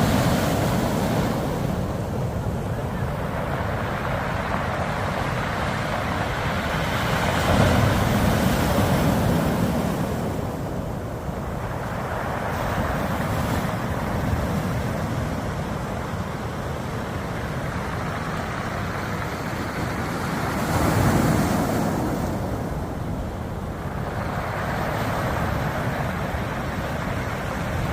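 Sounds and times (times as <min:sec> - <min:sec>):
waves washing over pebbles: 0:00.0 - 0:27.9.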